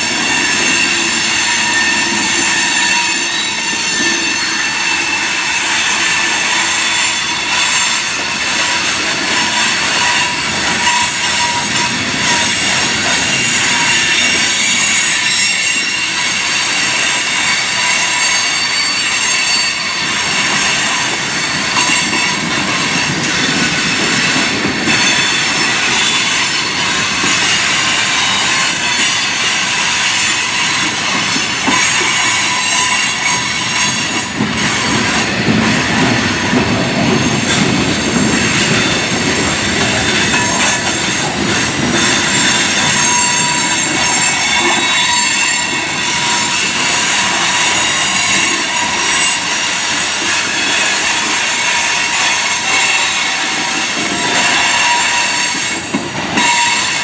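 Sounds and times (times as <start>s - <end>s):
train rumble: 0.0s - 57.0s
wheel flanges squealing on rail: 0.0s - 57.0s.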